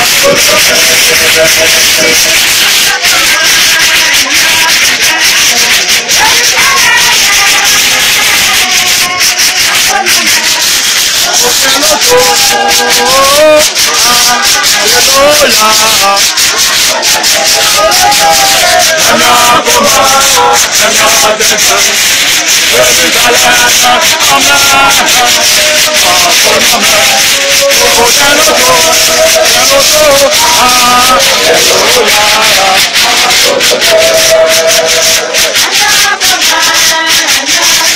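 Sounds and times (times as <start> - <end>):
group singing: 0.0 - 37.9
shakers rattling: 0.0 - 37.9.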